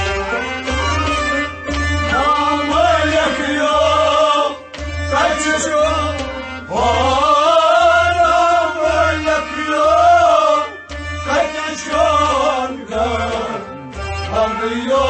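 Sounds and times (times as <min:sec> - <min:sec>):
man singing: 0:02.0 - 0:15.0.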